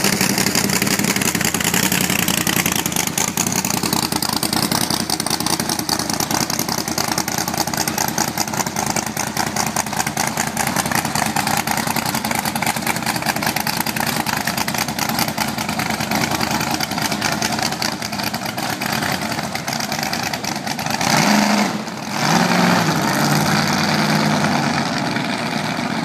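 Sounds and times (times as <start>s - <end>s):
hot rod engine rumbling: 0.0s - 26.0s.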